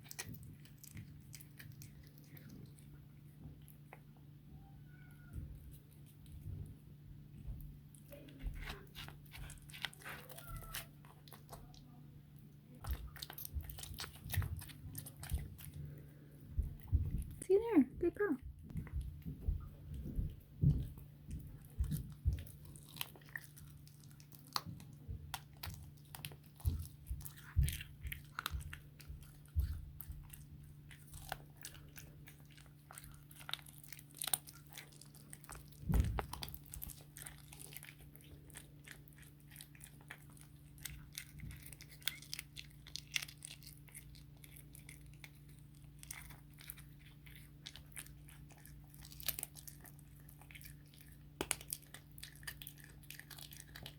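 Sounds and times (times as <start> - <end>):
cat crunching bones: 0.0 - 4.3, 7.4 - 17.4, 18.7 - 53.9
steady low hum: 5.5 - 53.9.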